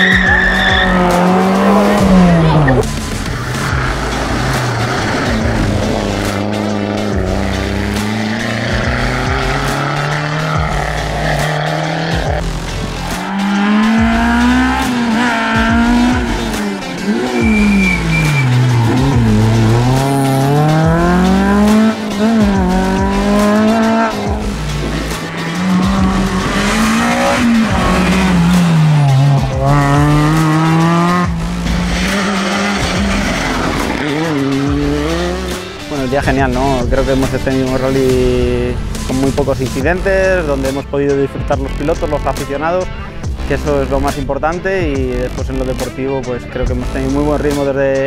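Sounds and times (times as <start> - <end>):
rally car engines revving: 0.0 - 44.3
background music with bass: 0.0 - 48.0.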